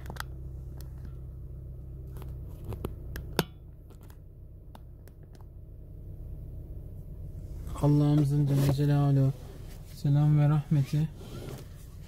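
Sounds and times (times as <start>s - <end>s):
car cabin drone while driving: 0.0s - 12.0s.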